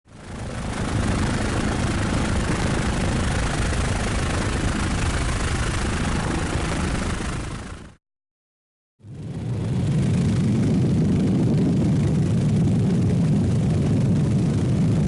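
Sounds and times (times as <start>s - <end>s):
helicopter engine and rotor: 0.1s - 8.0s, 9.0s - 15.0s.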